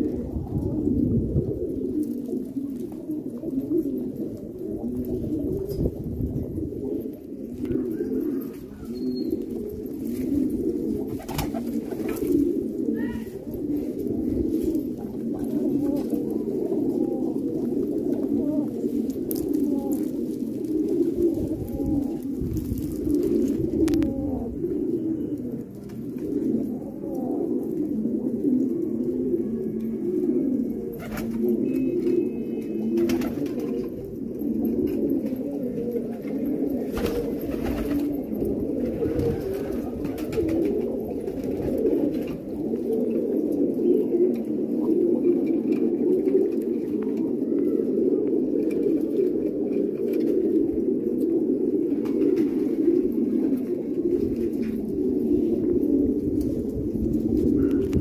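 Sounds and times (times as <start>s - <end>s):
pigeons cooing: 0.0s - 58.0s.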